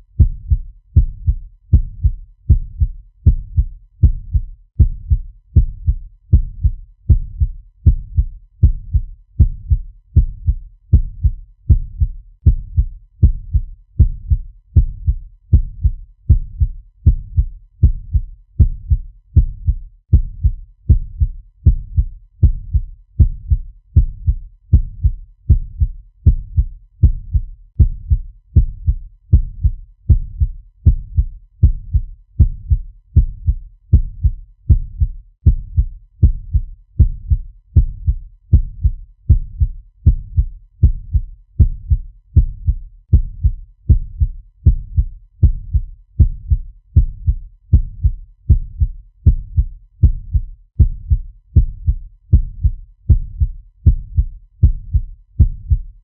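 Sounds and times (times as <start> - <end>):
heartbeat thumps: 0.0 - 56.0.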